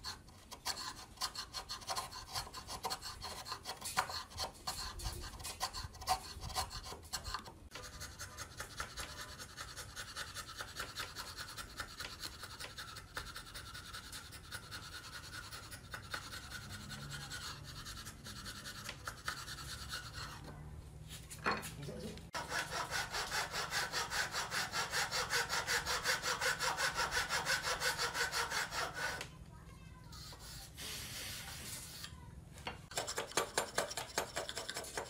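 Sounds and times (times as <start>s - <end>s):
chisel scraping wood: 0.0s - 20.5s, 22.3s - 29.3s, 32.9s - 35.0s.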